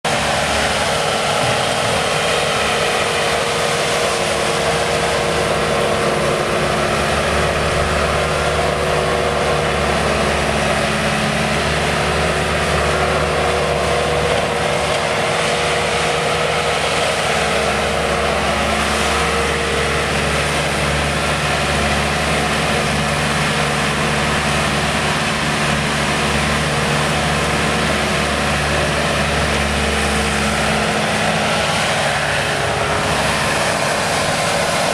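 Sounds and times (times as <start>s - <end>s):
diesel loader engine running: 0.0s - 34.9s.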